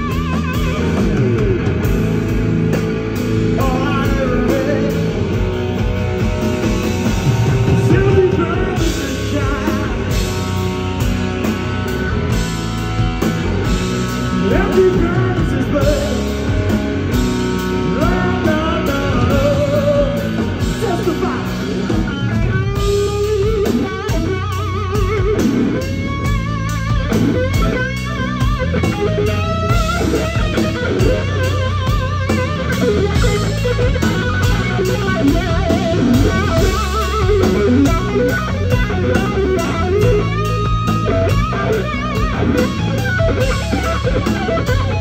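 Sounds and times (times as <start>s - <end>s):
bass guitar: 0.0s - 45.0s
drums: 0.0s - 45.0s
electric guitar solo: 0.0s - 45.0s.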